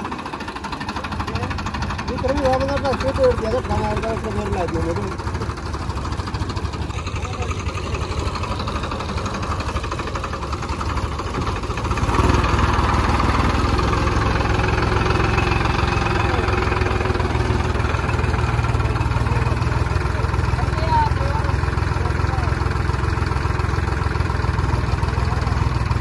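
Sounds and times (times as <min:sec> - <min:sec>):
tractor diesel engine revving: 0:00.0 - 0:26.0.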